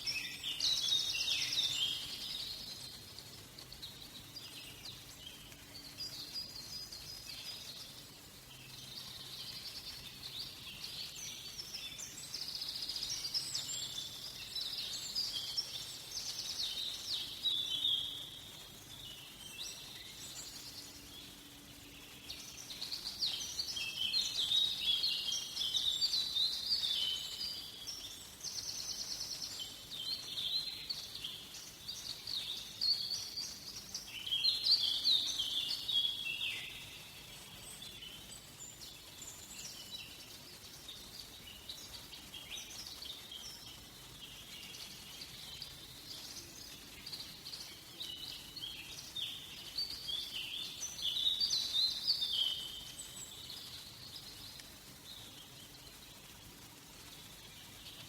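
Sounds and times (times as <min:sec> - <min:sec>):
faint background hiss: 0:00.0 - 0:58.0
songbirds chirping and warbling: 0:00.0 - 0:58.0.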